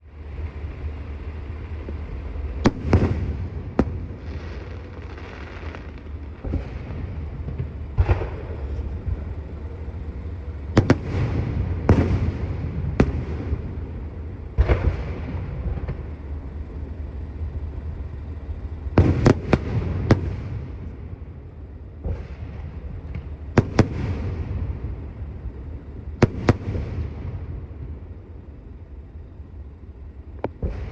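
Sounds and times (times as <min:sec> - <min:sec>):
low rumble: 0:00.0 - 0:30.9
fireworks crackling: 0:00.2 - 0:30.9.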